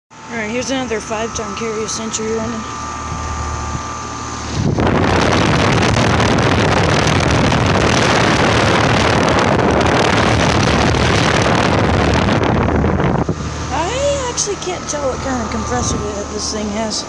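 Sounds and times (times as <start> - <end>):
air conditioner fan rushing: 0.1 - 17.0
low hum: 0.1 - 17.0.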